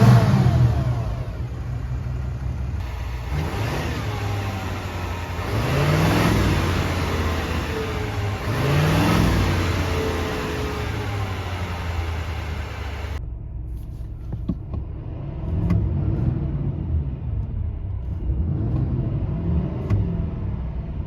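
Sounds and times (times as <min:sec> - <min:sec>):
diesel engine idling and revving: 0:00.0 - 0:21.0.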